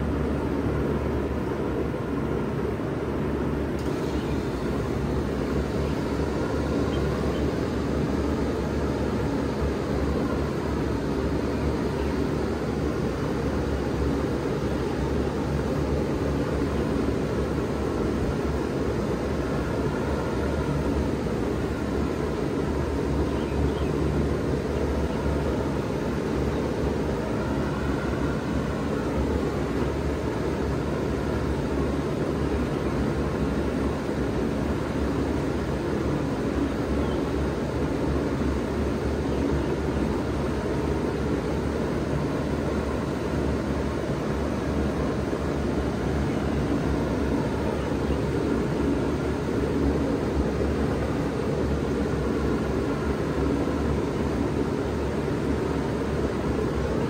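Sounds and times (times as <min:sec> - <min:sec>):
compressor humming: 0:00.0 - 0:57.0
condenser fan rushing: 0:00.0 - 0:57.0.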